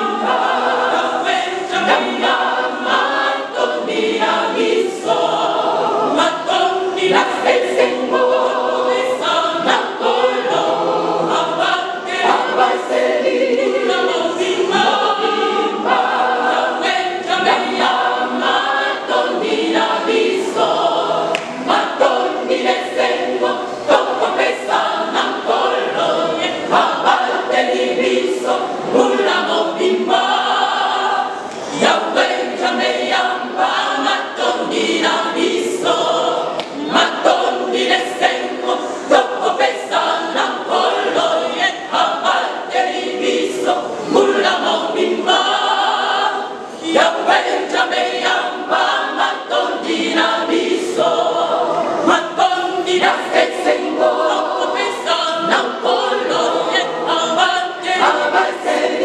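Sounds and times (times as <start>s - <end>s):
church choir singing: 0.0s - 59.0s.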